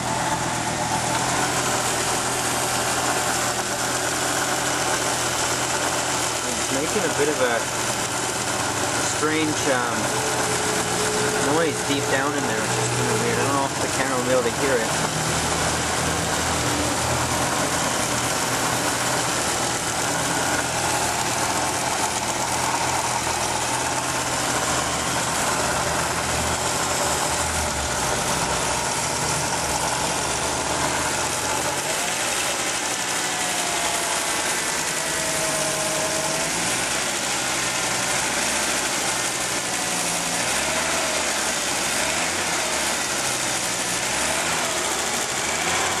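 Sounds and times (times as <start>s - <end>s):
car engine idling: 0.0s - 46.0s
lifter ticking: 0.0s - 46.0s.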